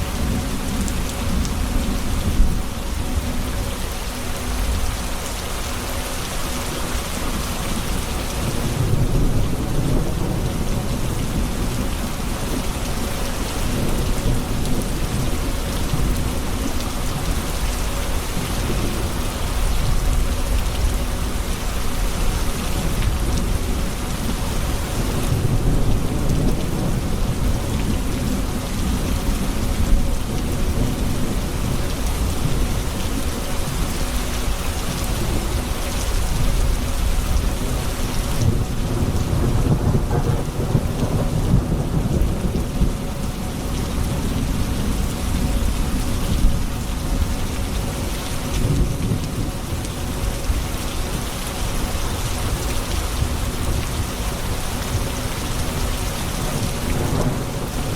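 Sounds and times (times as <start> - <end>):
heavy rain falling: 0.0 - 57.9
low rolling thunder: 7.4 - 57.9.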